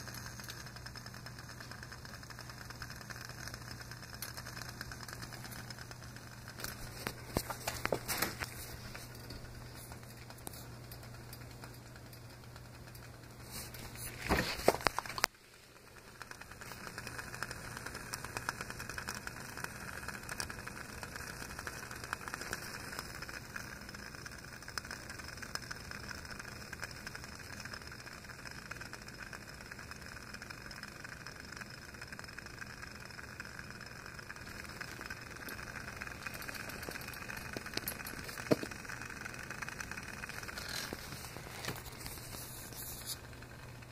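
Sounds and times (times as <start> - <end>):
stove flames hissing: 0.0 - 43.9.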